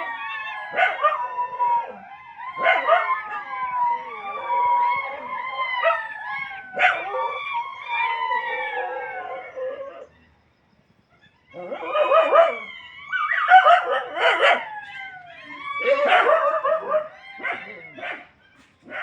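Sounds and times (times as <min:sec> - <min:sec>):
dogs howling: 0:00.0 - 0:10.3, 0:11.2 - 0:19.0.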